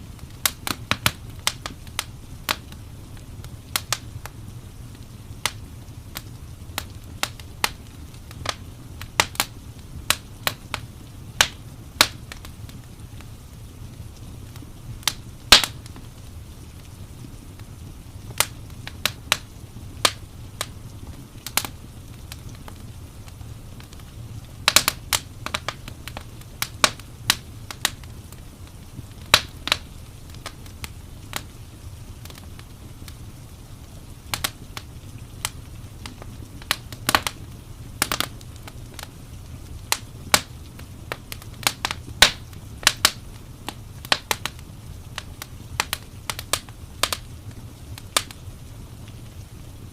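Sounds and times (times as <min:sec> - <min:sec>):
fire low rumble: 0:00.0 - 0:49.9
wood fire pops and snaps: 0:00.1 - 0:49.9.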